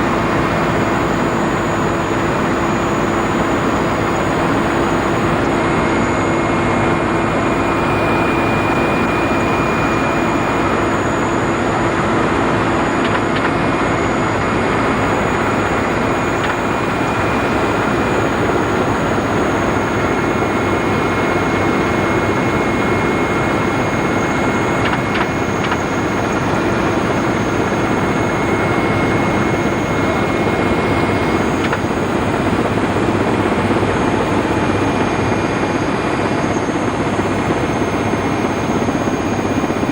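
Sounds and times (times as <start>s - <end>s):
constant whine: 0.0s - 39.9s
helicopter engine and rotor drone: 0.0s - 39.9s.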